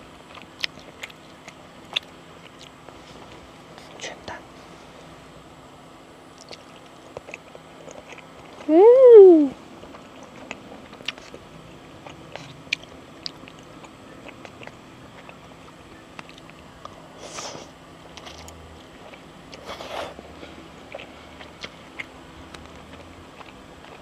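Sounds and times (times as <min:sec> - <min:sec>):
person chewing food: 0:00.2 - 0:04.0, 0:06.3 - 0:08.7, 0:09.8 - 0:24.0.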